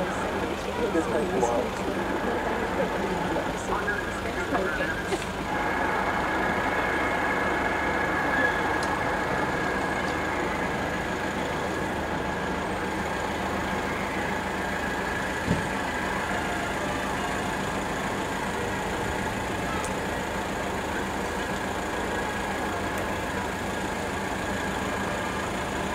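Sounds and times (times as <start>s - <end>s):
distant helicopter rotor drone: 0.0s - 25.9s
high engine whine: 0.0s - 25.9s.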